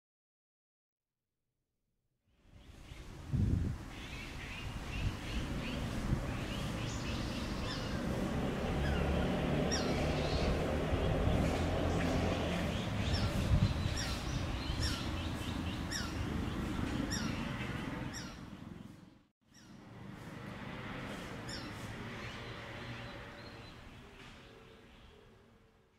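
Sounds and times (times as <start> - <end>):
low city rumble: 2.5 - 25.9.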